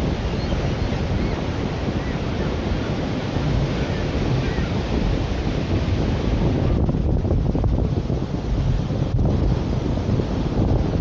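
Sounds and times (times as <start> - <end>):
waves breaking on shore: 0.0 - 11.0
wind buffeting microphone: 0.0 - 11.0.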